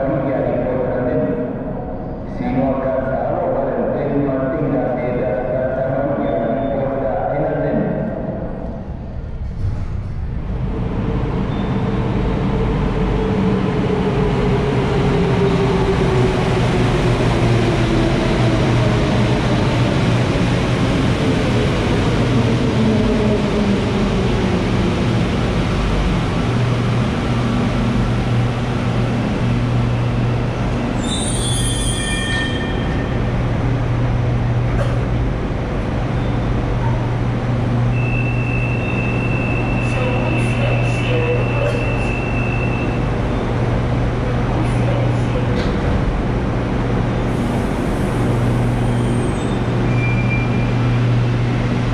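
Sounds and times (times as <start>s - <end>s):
train rumbling: 6.8s - 51.9s.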